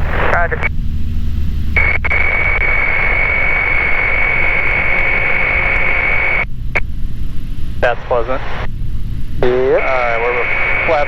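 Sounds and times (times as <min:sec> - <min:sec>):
radio static hiss: 0:00.0 - 0:07.0, 0:07.7 - 0:11.0
airplane engine drone: 0:00.0 - 0:11.0.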